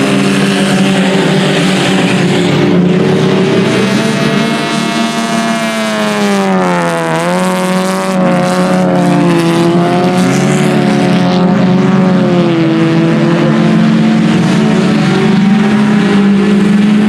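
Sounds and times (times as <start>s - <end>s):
race car engines running: 0.0s - 17.0s.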